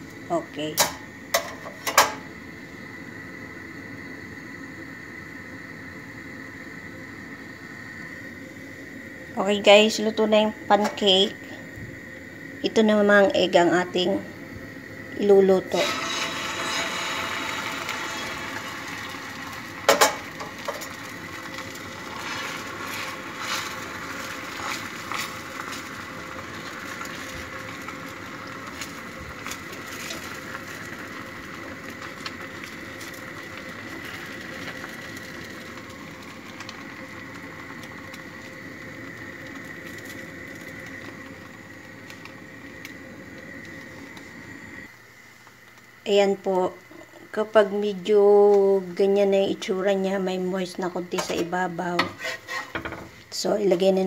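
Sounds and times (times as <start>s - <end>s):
egg sizzling in pan: 0.0s - 54.0s.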